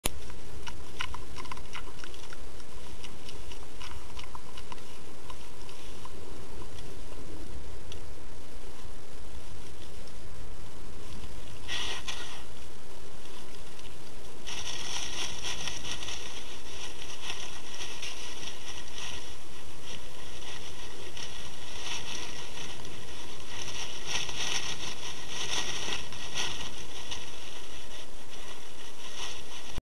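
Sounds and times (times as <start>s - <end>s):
deer chewing: 0.0s - 8.1s, 11.0s - 29.8s
steady hiss: 0.0s - 29.8s
steady low rumble: 0.0s - 29.8s.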